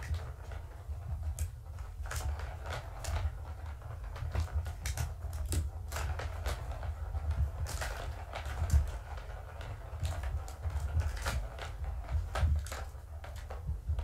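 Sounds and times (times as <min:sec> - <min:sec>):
low steady hum: 0:00.0 - 0:14.0
plastic ball rattling in track: 0:00.0 - 0:14.0.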